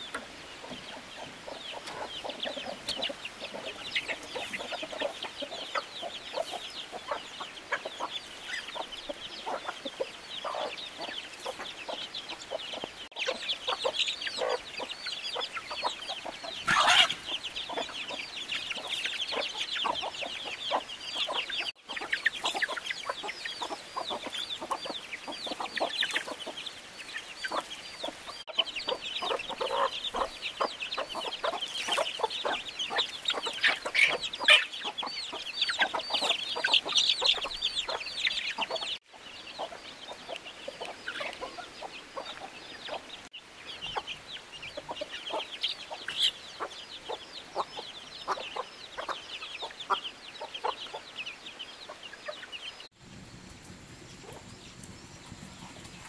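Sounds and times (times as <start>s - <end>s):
chickens clucking: 0.0s - 52.9s, 54.2s - 56.0s
dense high-pitched chirping: 0.0s - 56.0s.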